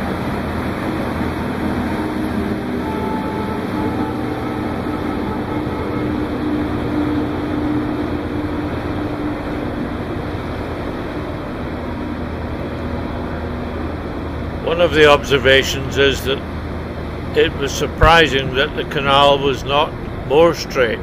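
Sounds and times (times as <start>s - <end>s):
ship engine rumble and hum: 0.0s - 21.0s.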